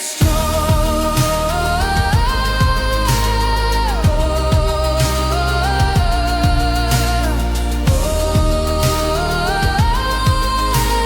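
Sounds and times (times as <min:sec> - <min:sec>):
steady drum beat: 0:00.0 - 0:11.0
held lead melody: 0:00.2 - 0:11.0.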